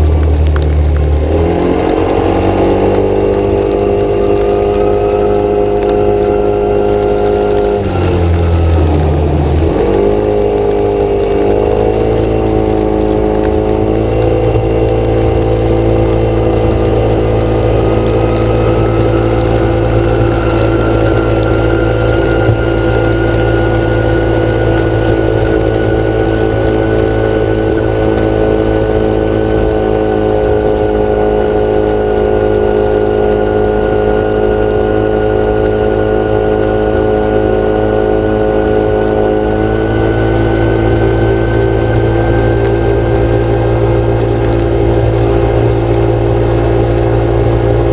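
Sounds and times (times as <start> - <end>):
faint rising whine: 0.0 - 47.9
motor running steadily: 0.0 - 47.9.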